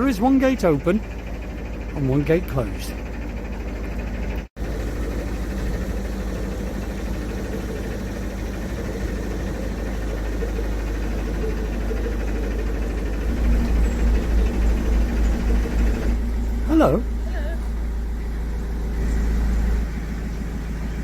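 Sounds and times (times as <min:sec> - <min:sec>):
diesel engine running slowly: 0:00.0 - 0:21.0.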